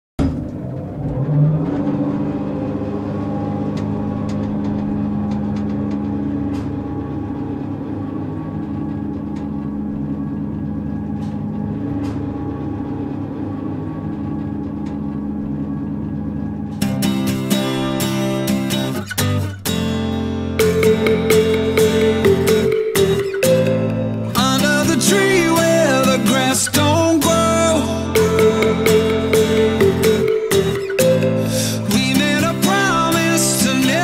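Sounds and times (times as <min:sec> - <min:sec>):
low droning pad: 0:00.2 - 0:34.0
strummed guitar music: 0:02.5 - 0:34.0.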